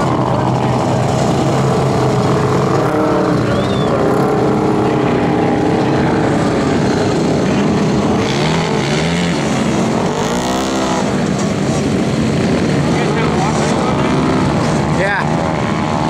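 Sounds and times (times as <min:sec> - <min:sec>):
dune buggy engine revving hard: 0:00.0 - 0:16.0.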